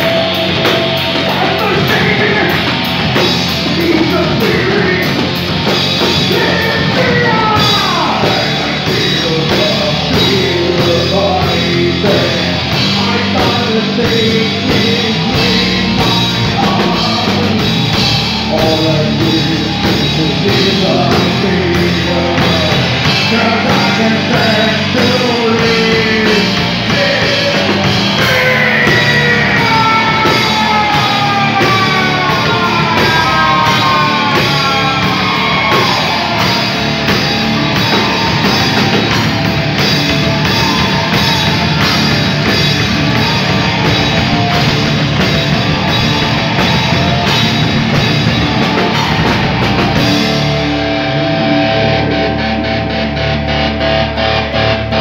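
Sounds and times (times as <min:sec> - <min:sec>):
heavy metal band playing: 0:00.0 - 0:55.0.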